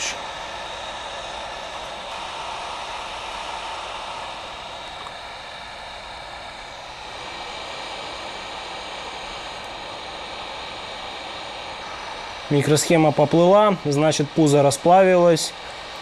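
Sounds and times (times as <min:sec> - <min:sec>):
hot air station hissing: 0:00.0 - 0:16.0.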